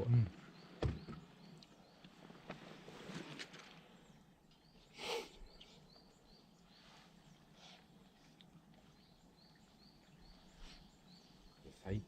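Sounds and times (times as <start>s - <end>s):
bird chirping: 0.0s - 2.8s, 3.8s - 12.0s.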